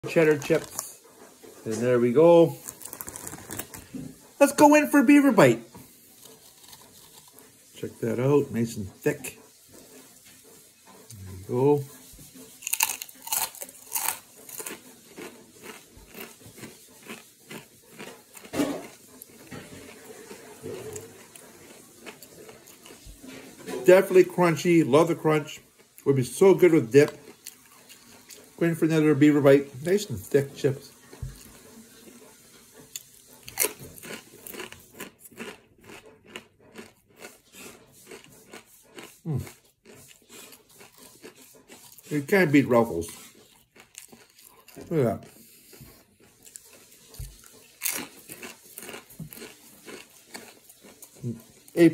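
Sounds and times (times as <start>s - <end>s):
potato chip crunching and chewing: 0.0s - 1.0s, 1.6s - 5.5s, 6.1s - 9.2s, 12.6s - 31.6s, 33.0s - 51.9s.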